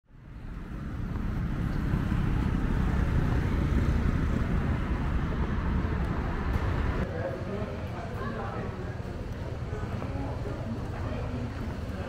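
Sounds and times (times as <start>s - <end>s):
low rumble of traffic: 0.1s - 12.0s.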